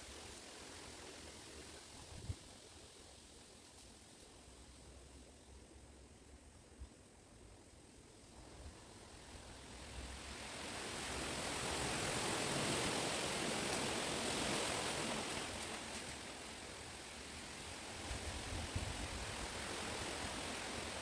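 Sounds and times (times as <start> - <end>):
wind rushing through leaves: 0.0 - 5.2, 8.0 - 21.0.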